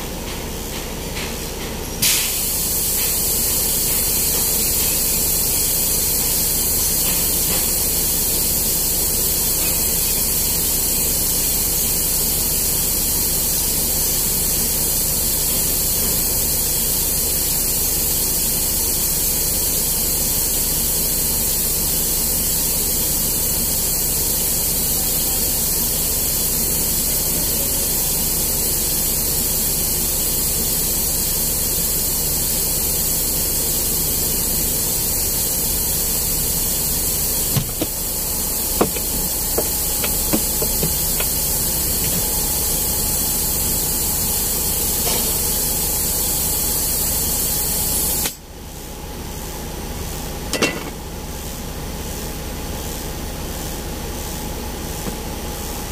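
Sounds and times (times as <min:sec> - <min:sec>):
steady hiss: 0:02.0 - 0:48.5.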